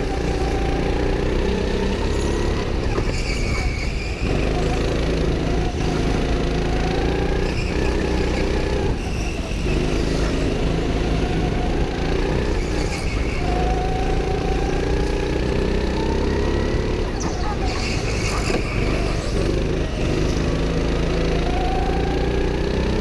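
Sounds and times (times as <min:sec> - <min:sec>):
go-kart engine revving: 0:00.0 - 0:23.0.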